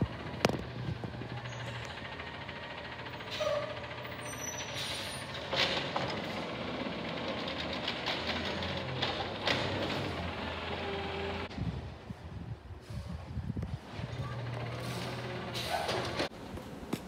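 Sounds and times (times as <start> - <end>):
garbage truck diesel engine running: 0.0 - 11.5, 13.8 - 16.3.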